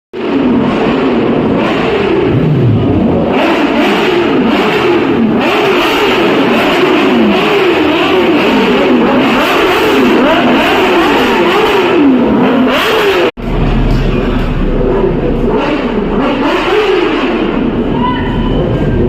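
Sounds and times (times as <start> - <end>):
motorcycle engines revving: 0.2 - 19.0.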